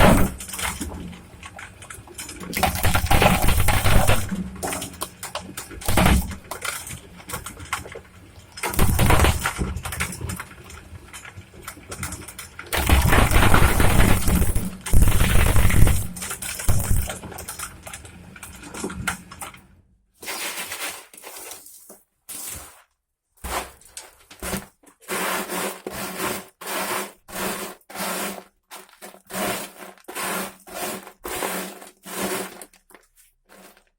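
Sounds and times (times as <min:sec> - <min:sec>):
shredder grinding and scraping: 0:00.0 - 0:08.0, 0:08.6 - 0:19.3, 0:24.4 - 0:32.9.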